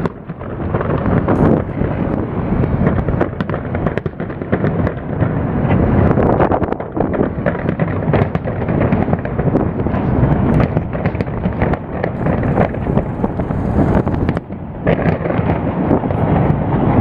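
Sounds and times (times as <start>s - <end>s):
continuous rumble: 0.0s - 17.0s
crackling pops: 0.0s - 17.0s
fireworks bangs: 0.0s - 17.0s.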